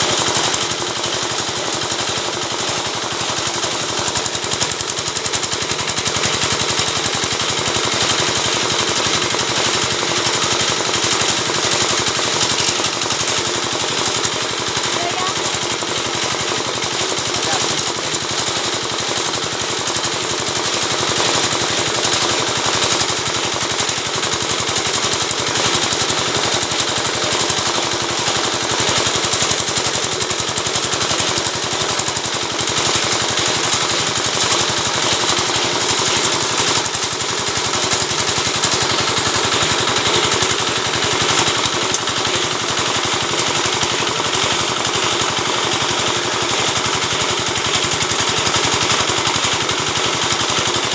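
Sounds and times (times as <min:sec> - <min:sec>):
stripping machine rattling: 0:00.0 - 0:50.9.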